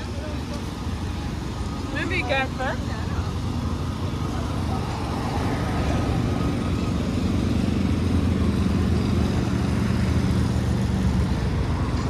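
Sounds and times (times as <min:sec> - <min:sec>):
engine humming: 0:00.0 - 0:12.0
street noise: 0:00.0 - 0:12.0.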